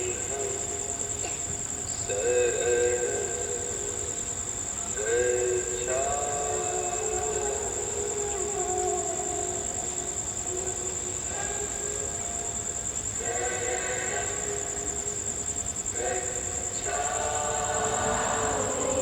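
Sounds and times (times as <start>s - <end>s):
high-pitched whine: 0.0s - 19.0s
voices chanting in unison: 0.0s - 19.0s.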